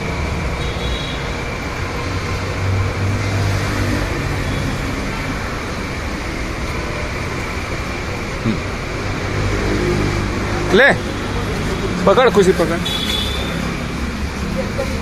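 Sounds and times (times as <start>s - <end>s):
traffic din: 0.0s - 15.0s.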